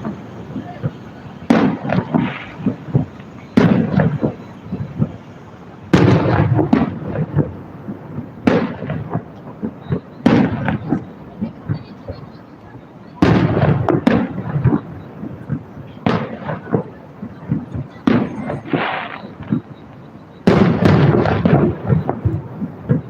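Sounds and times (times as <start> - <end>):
fireworks booming: 0.0 - 23.0
fireworks pops and crackle: 0.0 - 23.0.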